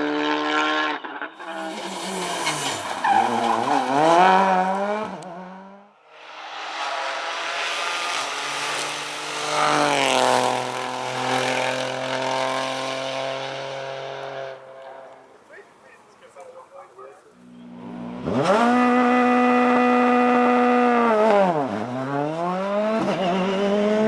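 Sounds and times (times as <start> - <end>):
rally car passing by: 0.0 - 15.3, 17.6 - 24.0
rally car engine revving: 0.0 - 15.6, 17.4 - 24.0.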